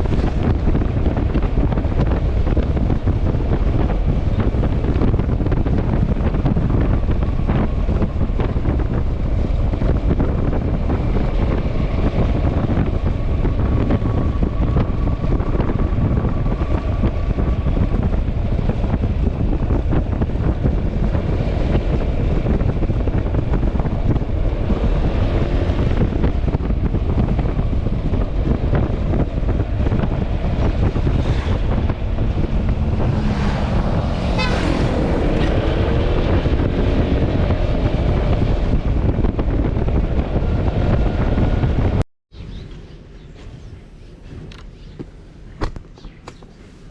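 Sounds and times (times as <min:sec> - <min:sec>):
road noise: 0:00.0 - 0:46.9
wind buffeting microphone: 0:00.0 - 0:46.9.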